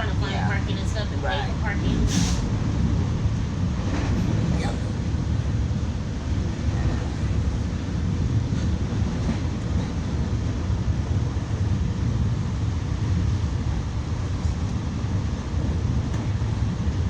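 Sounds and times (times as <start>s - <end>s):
train coach rumbling at speed: 0.0s - 17.0s.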